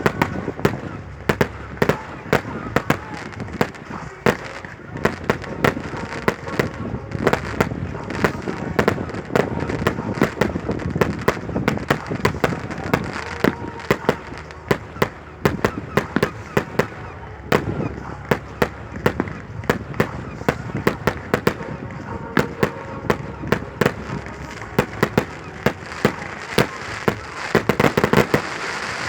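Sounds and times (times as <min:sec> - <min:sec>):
fireworks banging: 0:00.0 - 0:29.0.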